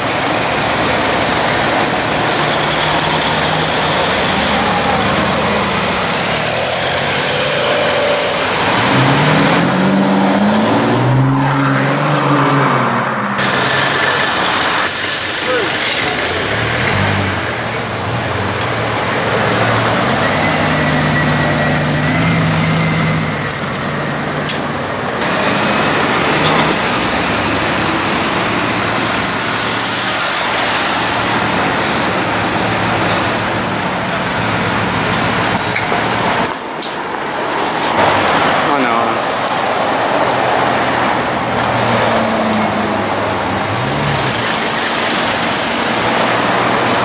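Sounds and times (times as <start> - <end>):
cars driving past: 0.0 - 47.0
tyres on the road: 0.0 - 47.0.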